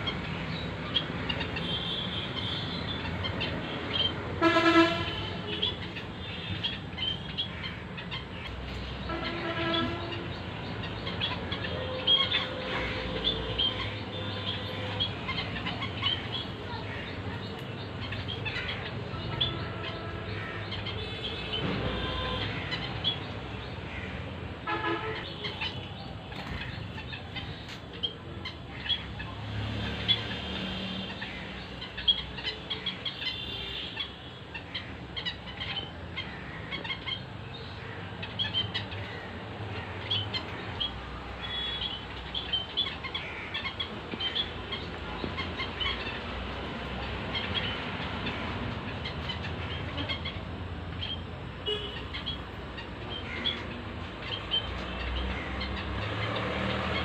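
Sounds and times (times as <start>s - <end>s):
small birds chirping: 0.0s - 4.4s, 5.0s - 57.0s.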